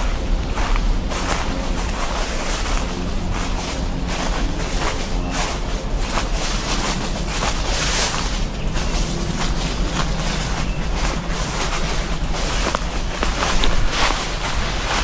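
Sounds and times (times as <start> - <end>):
footsteps crunching: 0.0 - 15.0
wind rumbling on microphone: 0.0 - 15.0.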